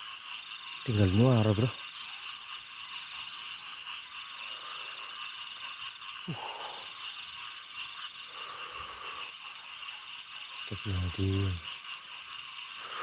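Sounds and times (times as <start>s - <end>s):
fast pulsing insect chirp: 0.0s - 13.0s
insects trilling: 0.0s - 13.0s.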